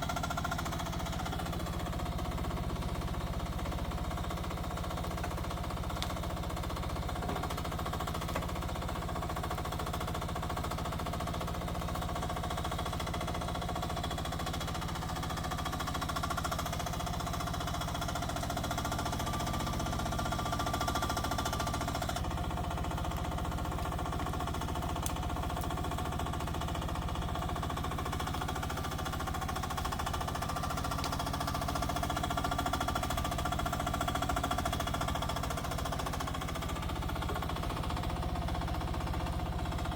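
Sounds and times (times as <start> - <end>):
excavator engine chugging: 0.0 - 39.9.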